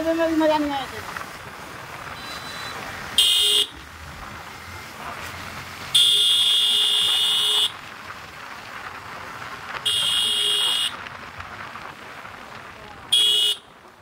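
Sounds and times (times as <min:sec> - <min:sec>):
riding noise: 0:00.0 - 0:14.0.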